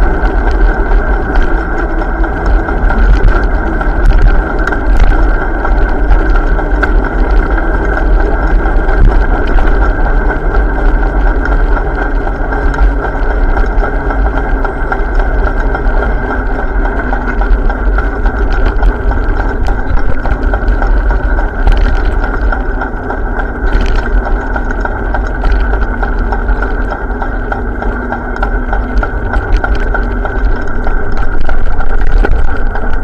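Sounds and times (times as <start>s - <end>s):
bike riding rumble: 0.0s - 33.0s.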